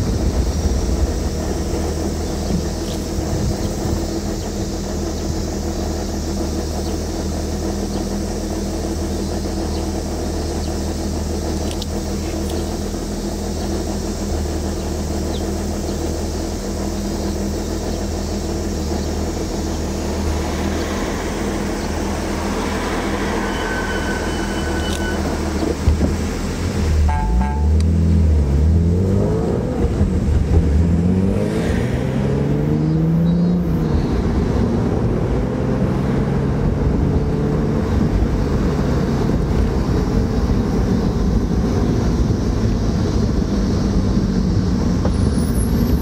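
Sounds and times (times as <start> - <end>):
car engine running: 0.0 - 46.0
tyre and road noise: 0.0 - 46.0.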